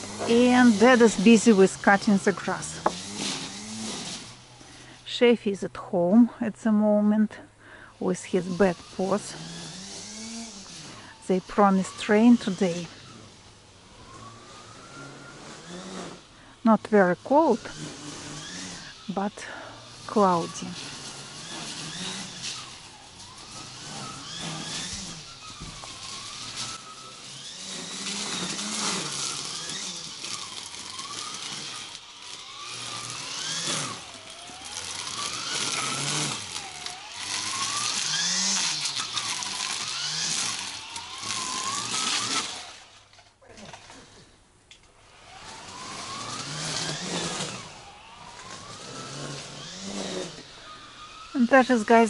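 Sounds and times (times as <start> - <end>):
string trimmer cutting grass: 0.0 - 52.0.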